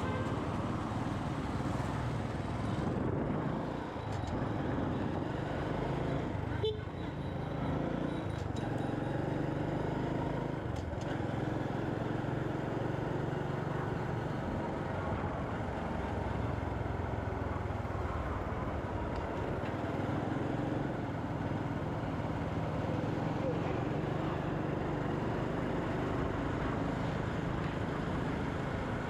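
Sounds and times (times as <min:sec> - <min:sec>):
motorcycle engine cruising: 0:00.0 - 0:29.0
road and wind noise: 0:00.0 - 0:29.0.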